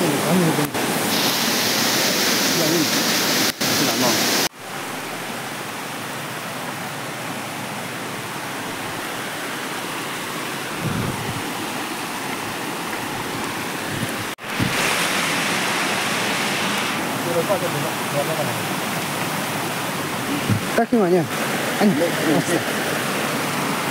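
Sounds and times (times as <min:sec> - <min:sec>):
water rushing over rocks: 0:00.0 - 0:23.9.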